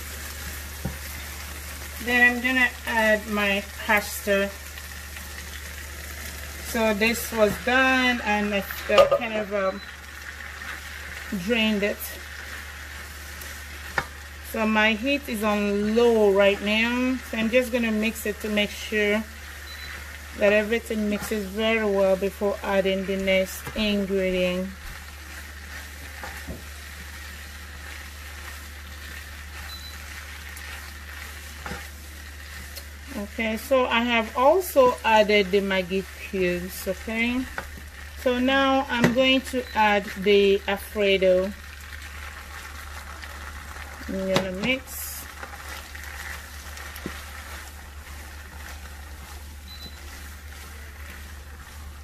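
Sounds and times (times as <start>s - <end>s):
pasta sizzling in a pan: 0.0s - 52.0s
spatula stirring: 4.8s - 52.0s.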